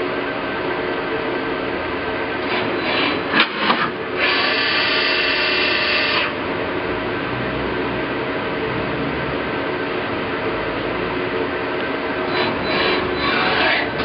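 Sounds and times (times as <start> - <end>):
machine running noise: 0.0 - 14.0
machine whine: 0.0 - 14.0.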